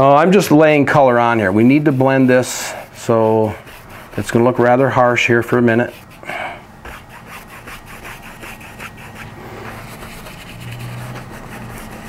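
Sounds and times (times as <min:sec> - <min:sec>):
paintbrush scrubbing on canvas: 0:00.0 - 0:12.0.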